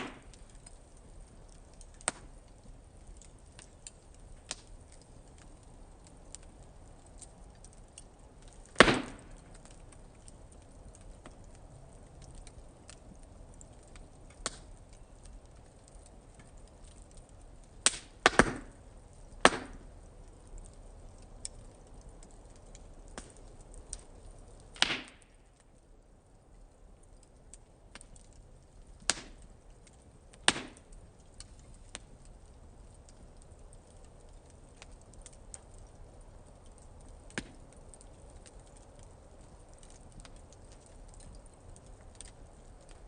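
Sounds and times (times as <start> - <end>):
low steady hiss: 0.0 - 43.0
wood fire crackling and popping: 0.0 - 43.0.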